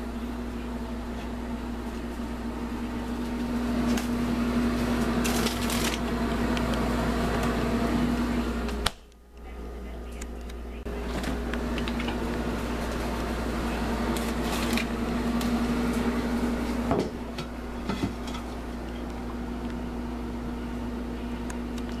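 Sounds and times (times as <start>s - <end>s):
kitchen appliance humming: 0.0s - 22.0s.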